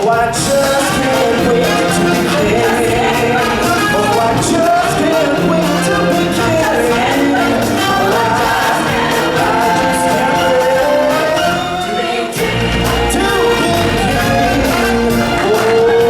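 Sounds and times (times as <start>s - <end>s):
band playing: 0.0s - 16.0s
choir singing: 0.0s - 16.0s
strong bass: 0.2s - 16.0s.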